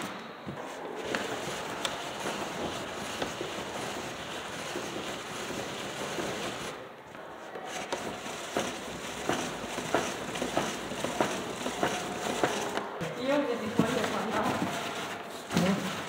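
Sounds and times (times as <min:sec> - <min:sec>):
cardboard mechanism scraping rattle: 0:01.0 - 0:06.8, 0:07.6 - 0:12.8, 0:13.7 - 0:16.0.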